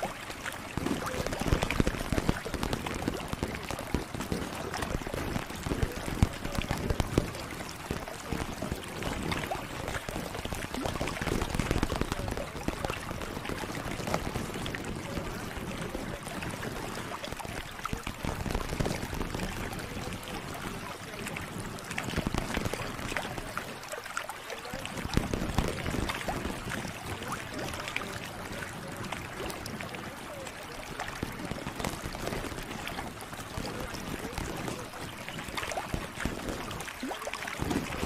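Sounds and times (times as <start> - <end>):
rushing water-like noise: 0.0 - 38.0
small crackles and clicks: 0.0 - 38.0.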